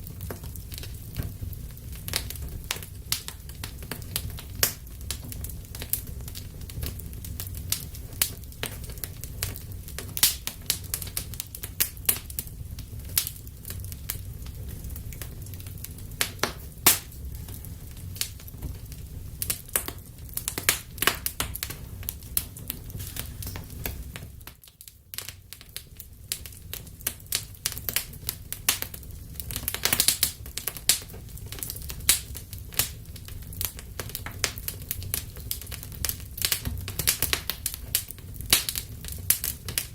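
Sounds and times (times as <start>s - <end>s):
fire crackling: 0.0s - 39.9s
low rumble of flames: 0.0s - 39.9s.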